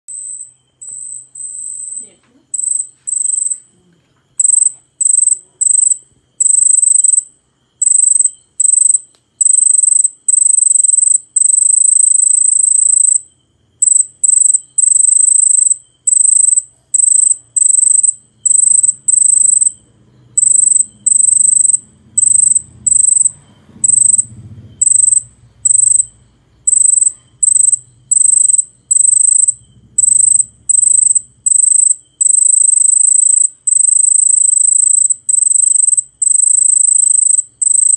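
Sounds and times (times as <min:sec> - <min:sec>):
cricket trilling: 0:00.1 - 0:37.9.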